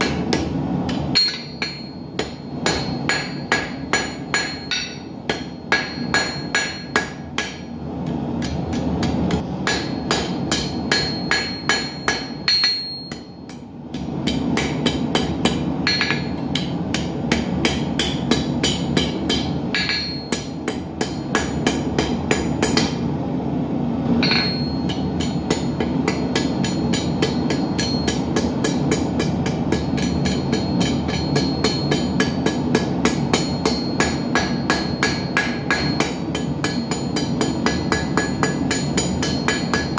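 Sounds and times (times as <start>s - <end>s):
hammer beating steel on anvil: 0.0s - 23.1s, 24.2s - 39.9s.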